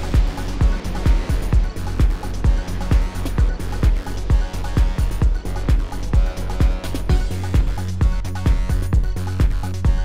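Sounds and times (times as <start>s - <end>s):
bass line: 0.0s - 10.0s
kick drum beat: 0.0s - 10.0s.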